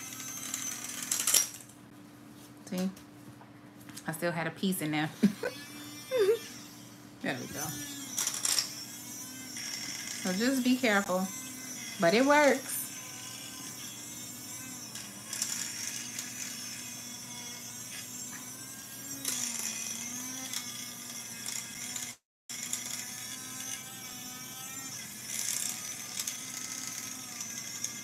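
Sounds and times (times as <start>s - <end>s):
electric grinder humming: 0.0s - 1.8s, 5.0s - 28.0s.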